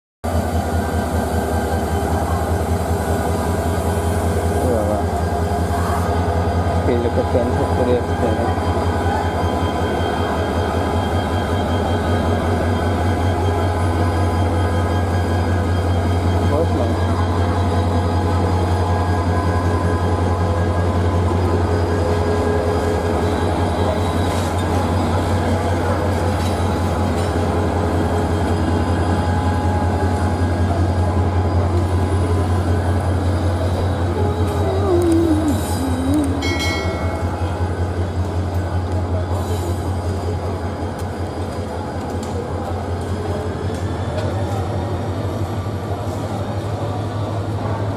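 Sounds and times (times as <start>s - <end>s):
train rumbling inside carriage: 0.2s - 47.9s
wheels on track: 0.3s - 47.9s.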